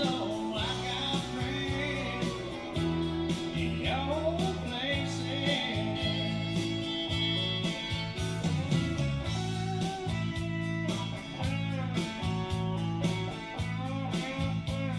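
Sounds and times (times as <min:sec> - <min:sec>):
music with beat and guitar: 0:00.0 - 0:14.9
sung melody line: 0:00.0 - 0:14.9.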